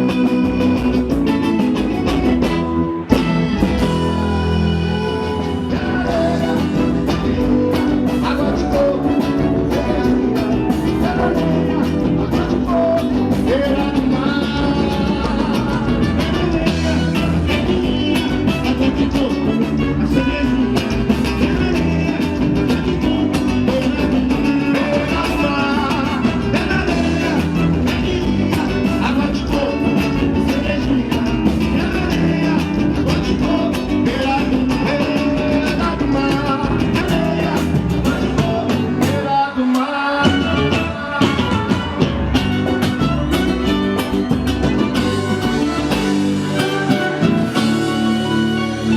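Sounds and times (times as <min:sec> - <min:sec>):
live band with guitar and beat: 0:00.0 - 0:48.9
person singing: 0:00.0 - 0:48.9.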